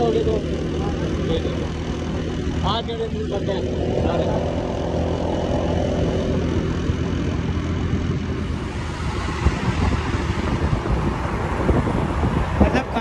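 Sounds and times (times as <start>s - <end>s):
road noise: 0.0s - 13.0s
small motorcycle engine running: 0.0s - 13.0s
wind on microphone: 0.0s - 13.0s.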